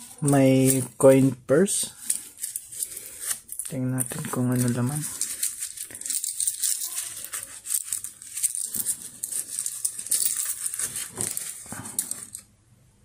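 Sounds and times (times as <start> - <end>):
coin purse rustling and clicking: 0.0 - 12.5.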